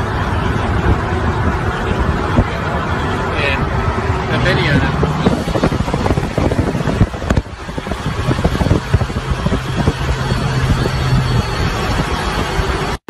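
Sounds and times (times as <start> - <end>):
low engine drone: 0.0 - 13.0
rushing road noise: 0.0 - 13.0
wind buffeting microphone: 0.0 - 13.0.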